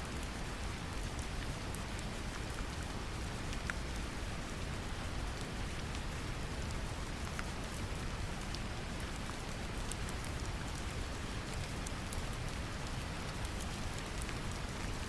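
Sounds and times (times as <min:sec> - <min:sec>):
gentle rain: 0:00.0 - 0:15.0.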